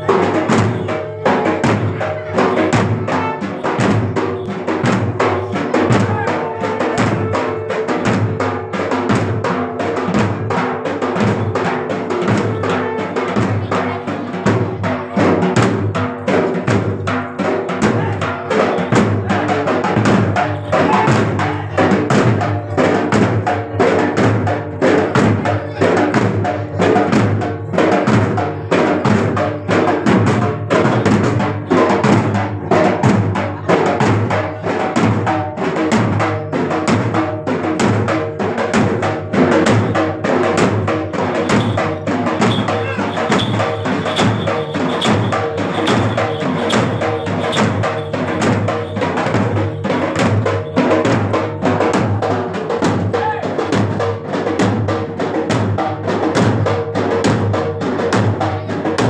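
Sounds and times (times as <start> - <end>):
fast drumming on metal drum: 0.0 - 59.0.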